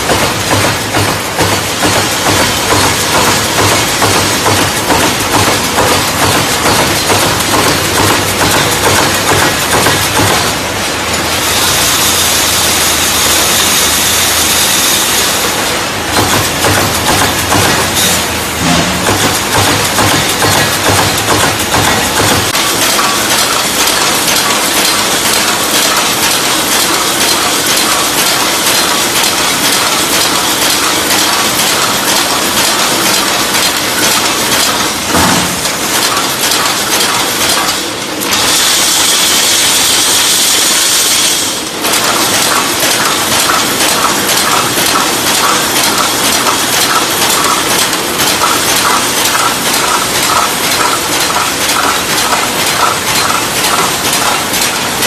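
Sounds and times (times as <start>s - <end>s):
machine clanking: 0.0s - 55.0s.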